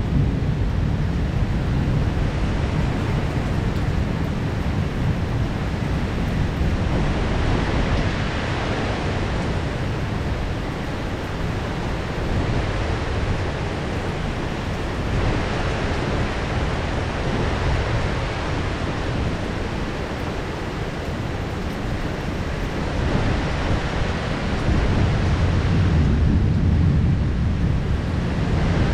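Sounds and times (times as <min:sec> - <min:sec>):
heavy rain pouring: 0:00.0 - 0:28.9.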